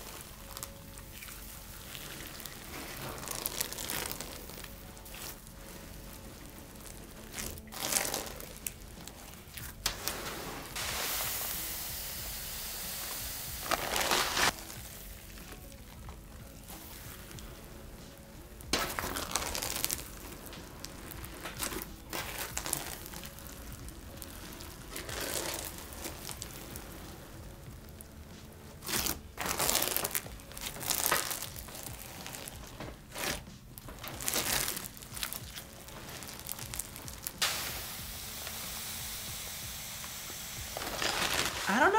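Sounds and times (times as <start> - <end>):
slime crunchy crackling: 0.0 - 10.8, 13.6 - 37.7, 40.7 - 41.9.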